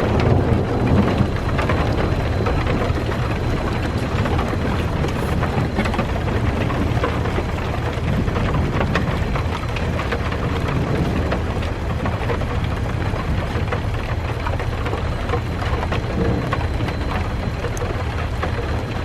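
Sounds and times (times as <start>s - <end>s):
continuous low rumble: 0.0s - 19.0s
rain drops ticking on a surface: 0.0s - 19.0s.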